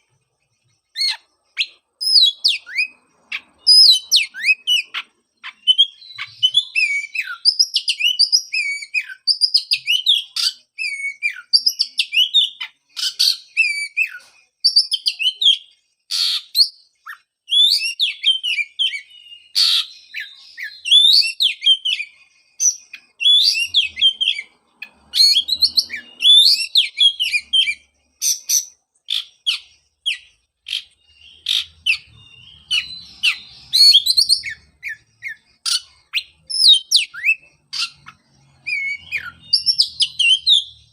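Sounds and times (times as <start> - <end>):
songbird singing whistled notes: 0.0 - 40.9.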